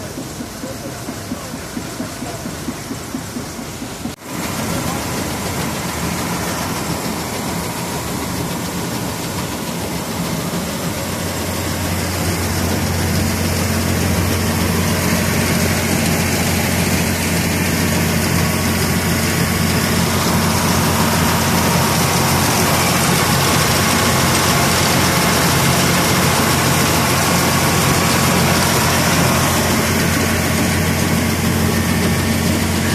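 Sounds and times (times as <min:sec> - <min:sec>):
harvesting machine engine running: 0:00.0 - 0:32.9.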